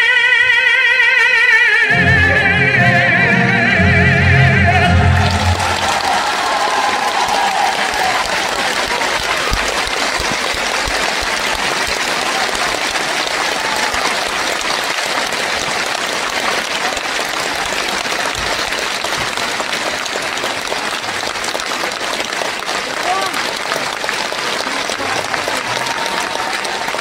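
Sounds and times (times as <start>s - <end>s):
audience applauding: 4.2s - 27.0s.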